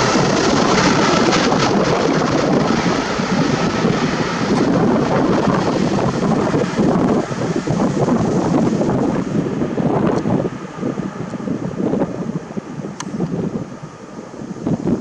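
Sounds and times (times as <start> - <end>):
jet engines on takeoff: 0.0 - 15.0
wind buffeting microphone: 0.0 - 15.0.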